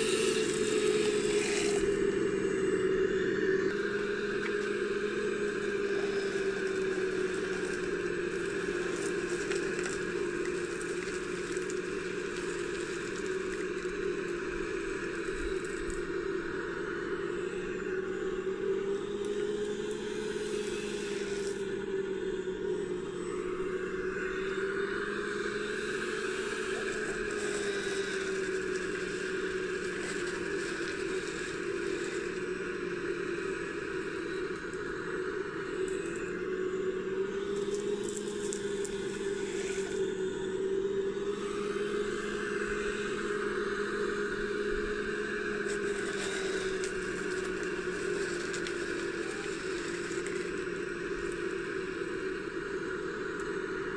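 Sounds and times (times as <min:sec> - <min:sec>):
electric motors whining: 0:00.0 - 0:53.9.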